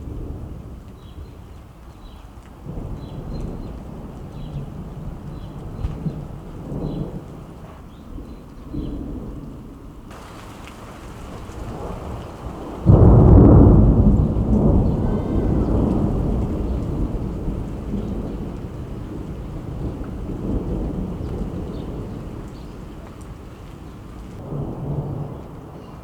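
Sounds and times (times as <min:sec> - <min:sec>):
steady rain: 0:00.0 - 0:26.0
thunder clap and rumble: 0:00.0 - 0:26.0.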